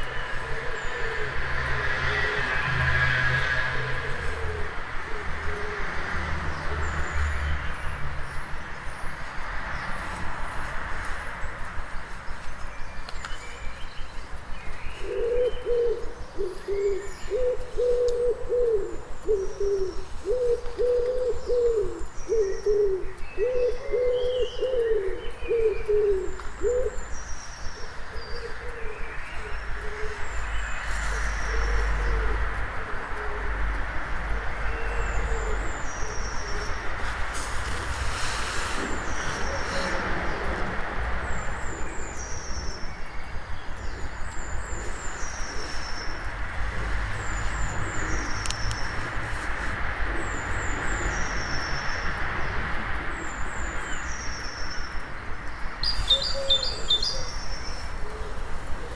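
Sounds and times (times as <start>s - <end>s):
low rumble of town: 0.0s - 23.8s, 24.8s - 58.9s
songbirds chirping: 0.0s - 58.9s.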